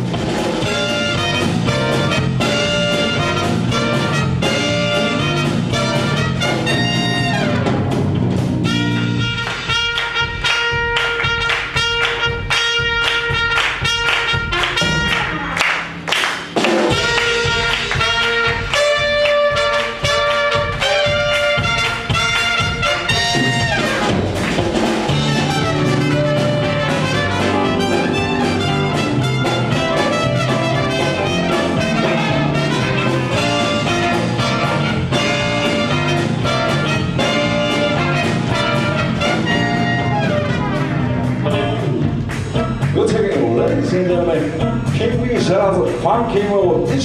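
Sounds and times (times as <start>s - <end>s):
live band with horn section: 0.0s - 47.0s
steady drumbeat: 0.0s - 47.0s.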